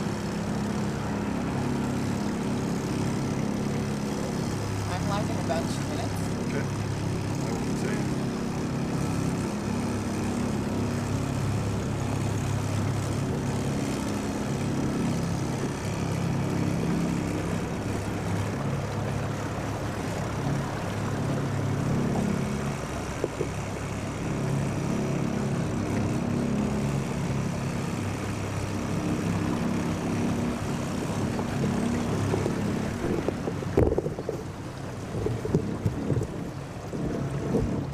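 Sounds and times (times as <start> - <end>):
boat motor droning: 0.0 - 37.9.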